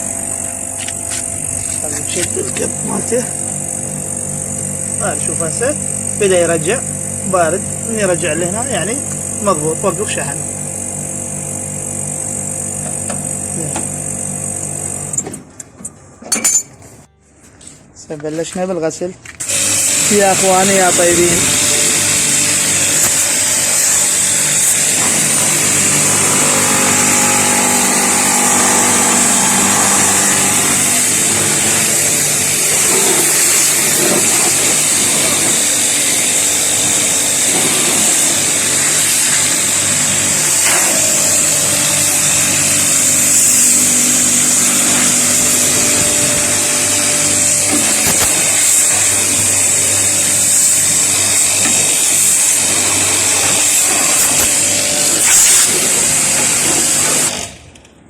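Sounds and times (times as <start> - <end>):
water jet hissing: 0.0 - 15.2, 19.4 - 57.5
pressure washer motor humming: 0.0 - 15.5, 19.4 - 57.8.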